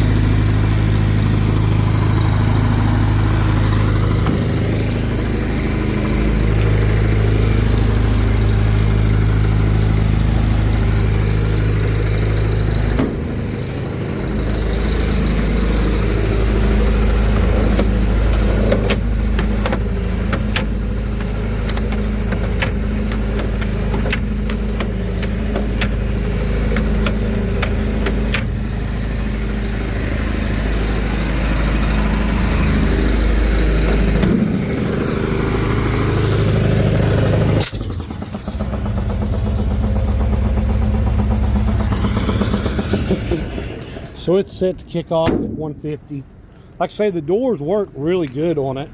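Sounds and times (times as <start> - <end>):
engine humming: 0.0 - 48.9.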